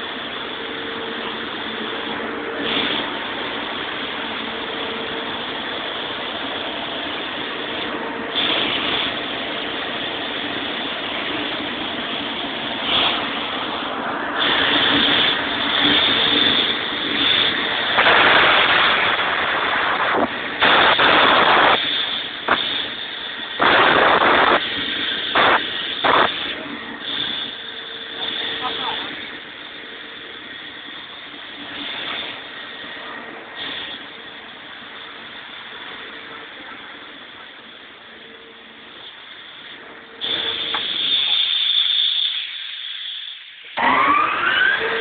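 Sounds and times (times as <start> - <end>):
air compressor running: 0.0 - 45.0
loud rushing air bursts: 0.0 - 45.0.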